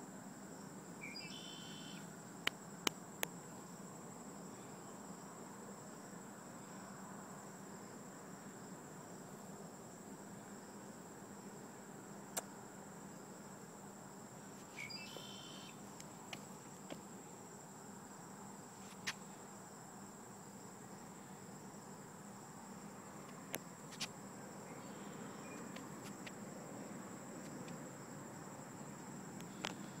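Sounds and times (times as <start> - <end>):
high-pitched insect trill: 0.4 - 2.8, 3.4 - 30.0.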